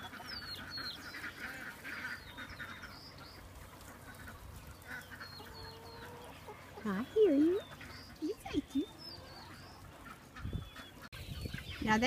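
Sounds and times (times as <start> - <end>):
poultry rasping chattering calls: 0.0 - 12.0
young birds peeping: 0.0 - 12.0.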